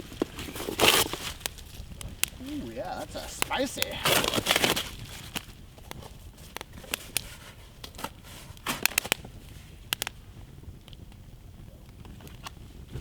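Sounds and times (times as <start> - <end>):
campfire crackling: 0.0 - 12.8.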